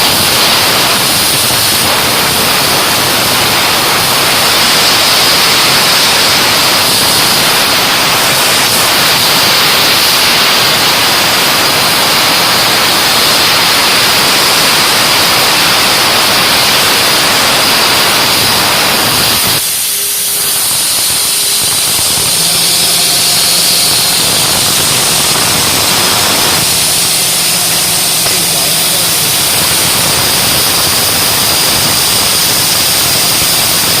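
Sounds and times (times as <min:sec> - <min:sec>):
plasma cutter hissing: 0:00.0 - 0:34.0.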